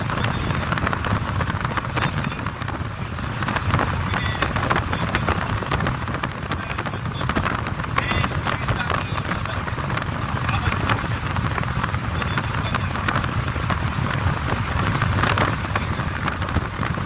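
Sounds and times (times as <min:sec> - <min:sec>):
air rushing past car: 0:00.0 - 0:17.0
tyres rumbling on road: 0:00.0 - 0:17.0.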